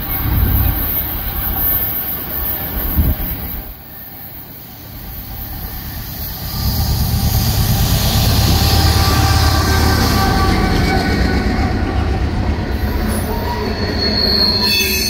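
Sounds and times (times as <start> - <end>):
diesel locomotives passing: 0.0 - 15.0.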